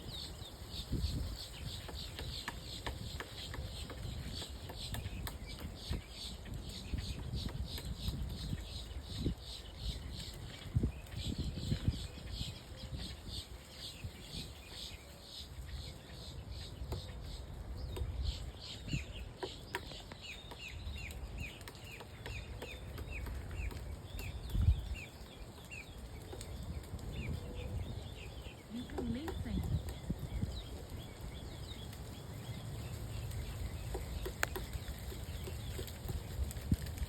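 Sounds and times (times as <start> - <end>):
bird chirping: 0.0 - 36.9
wind rumble on microphone: 0.0 - 37.0.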